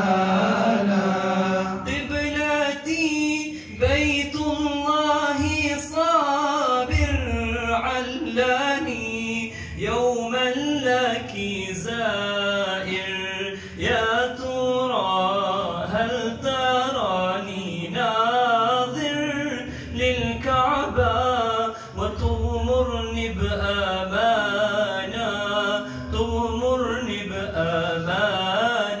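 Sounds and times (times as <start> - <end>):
men singing unaccompanied: 0.0 - 29.0.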